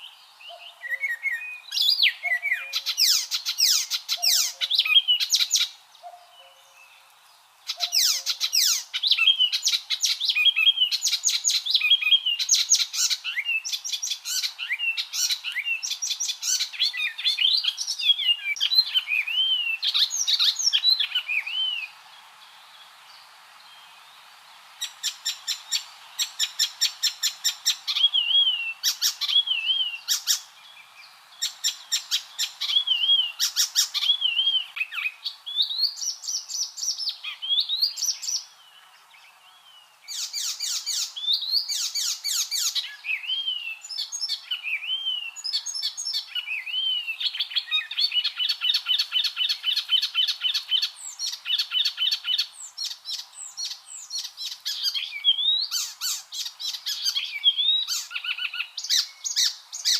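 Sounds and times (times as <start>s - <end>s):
warbler singing: 0.0s - 24.2s, 24.8s - 59.9s.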